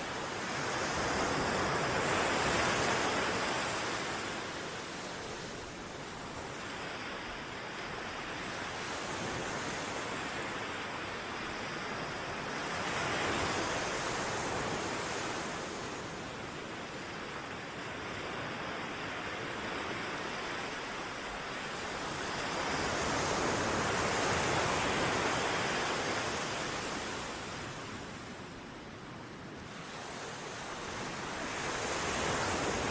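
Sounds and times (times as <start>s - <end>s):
ocean waves washing ashore: 0.0s - 32.9s.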